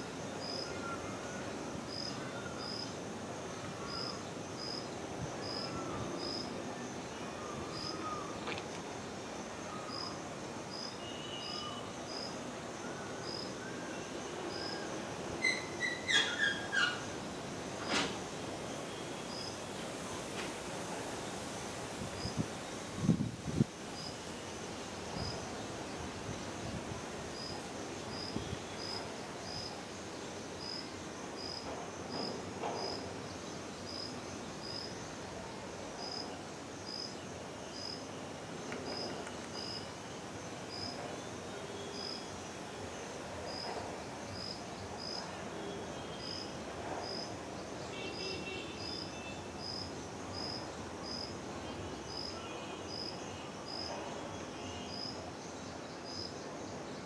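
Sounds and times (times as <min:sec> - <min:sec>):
outdoor background hiss: 0:00.0 - 0:57.0
insect chirping: 0:00.1 - 0:17.8, 0:18.5 - 0:20.1, 0:21.2 - 0:35.4, 0:36.0 - 0:57.0.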